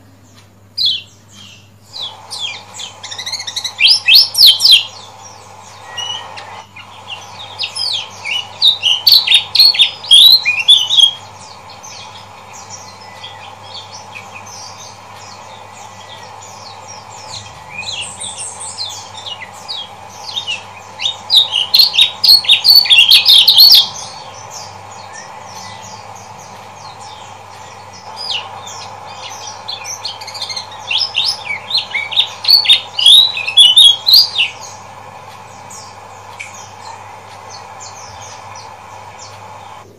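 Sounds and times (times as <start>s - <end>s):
low background hum: 0.0s - 39.9s
bird chattering calls: 0.8s - 39.9s.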